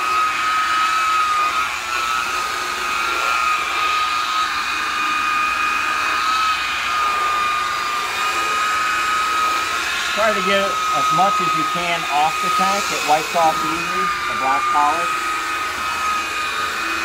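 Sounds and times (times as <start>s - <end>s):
polisher motor whine: 0.0s - 17.0s.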